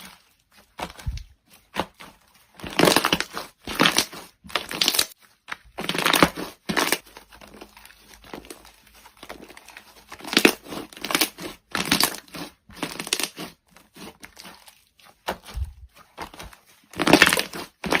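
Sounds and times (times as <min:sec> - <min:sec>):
slime crackling squelches: 0:00.0 - 0:18.0.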